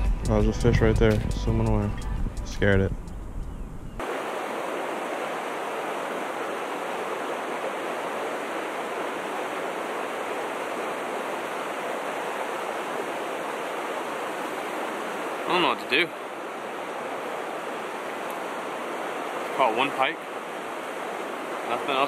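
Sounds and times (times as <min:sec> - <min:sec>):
river water rushing over rocks: 0:04.0 - 0:22.0.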